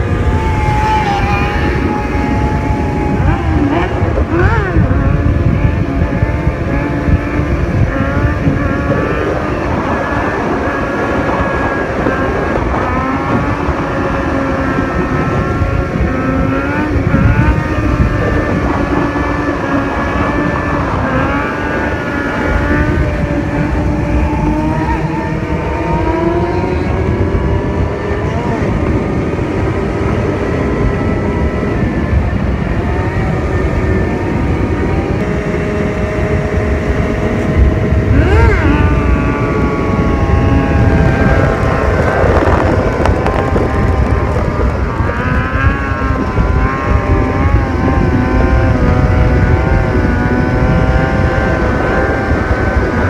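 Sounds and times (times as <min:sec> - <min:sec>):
motorcycle engines revving: 0:00.0 - 0:53.0
wind rumble on microphone: 0:00.0 - 0:53.0.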